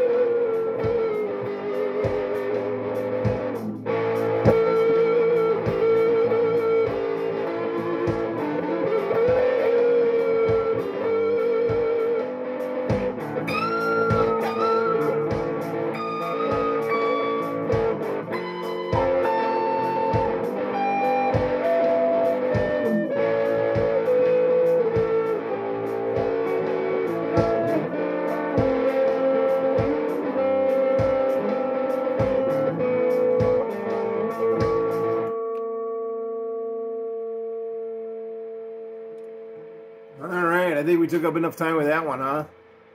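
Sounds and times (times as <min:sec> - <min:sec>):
guitar string bends: 0:00.0 - 0:42.4
electric guitar melody: 0:00.0 - 0:42.9.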